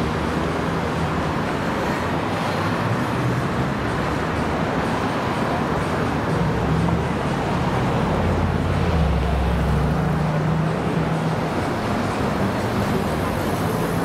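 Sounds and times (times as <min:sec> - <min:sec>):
road traffic noise: 0:00.0 - 0:14.0
vehicle engine hum passing: 0:00.0 - 0:14.0.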